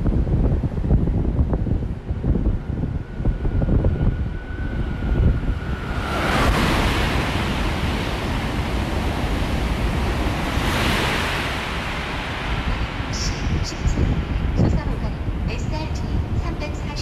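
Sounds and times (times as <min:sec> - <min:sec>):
high-speed train rushing past: 0:00.0 - 0:17.0
wind buffeting microphone: 0:00.0 - 0:17.0.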